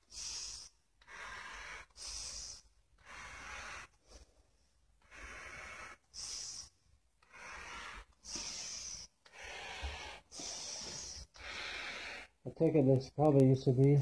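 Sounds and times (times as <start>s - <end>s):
person breathing through face mask: 0.0s - 12.4s.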